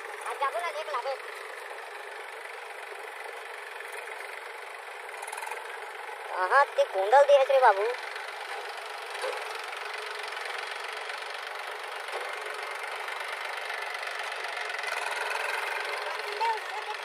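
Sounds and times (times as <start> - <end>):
backhoe loader engine running: 0.0 - 17.0
tractor diesel engine running: 0.0 - 17.0.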